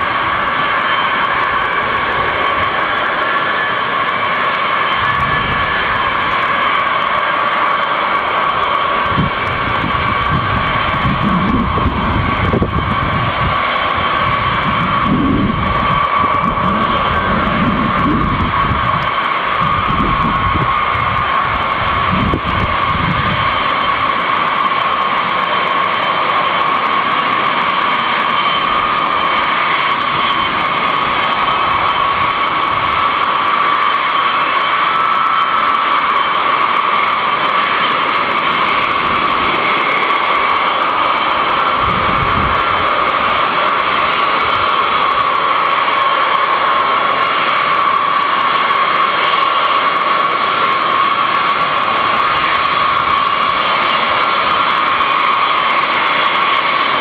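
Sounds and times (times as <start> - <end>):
jet engines whining: 0.0 - 57.0
rushing noise: 0.0 - 57.0.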